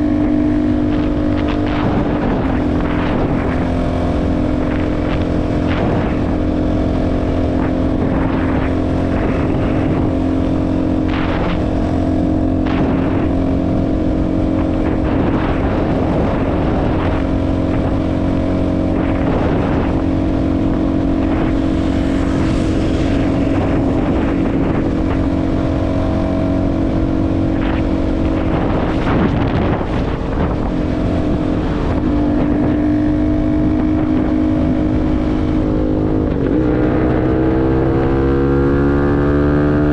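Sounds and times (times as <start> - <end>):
motorcycle engine cruising: 0.0 - 39.9
wind hitting microphone: 0.0 - 39.9.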